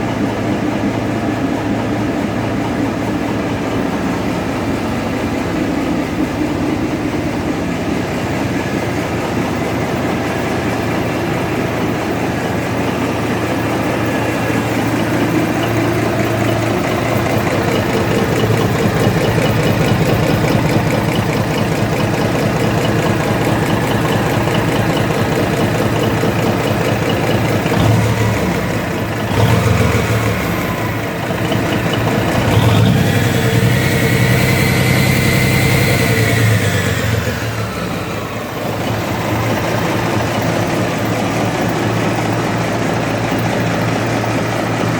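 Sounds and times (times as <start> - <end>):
diesel engine idling and revving: 0.0 - 44.9
engine whine: 0.0 - 44.9.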